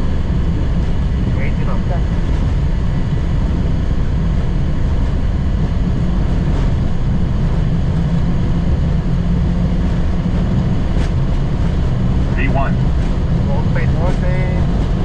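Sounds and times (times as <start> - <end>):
jet engines at takeoff thrust: 0.0 - 15.0
wheels rumbling on runway: 0.0 - 15.0.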